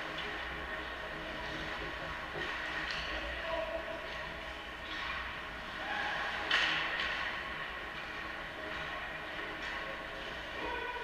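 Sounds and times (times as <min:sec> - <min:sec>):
distant hockey play on ice: 0:00.0 - 0:11.0
ice rink hum and hiss: 0:00.0 - 0:11.0.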